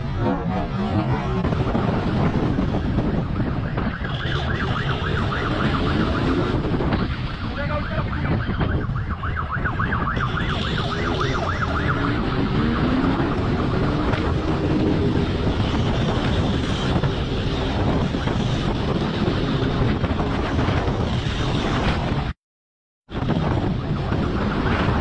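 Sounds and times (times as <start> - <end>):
police siren wailing: 0.0 - 21.8, 23.1 - 25.0
wind rushing: 0.0 - 22.4.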